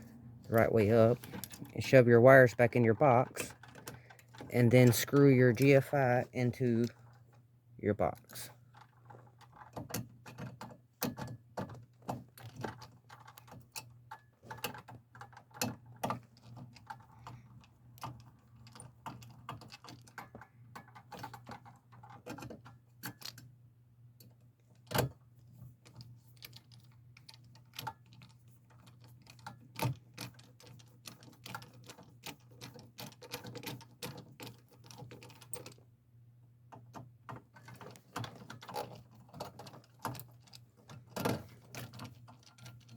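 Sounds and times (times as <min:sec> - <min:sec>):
light clicks taps and scrapes: 0:00.4 - 0:07.4, 0:08.0 - 0:23.5, 0:24.2 - 0:35.9, 0:36.7 - 0:42.9.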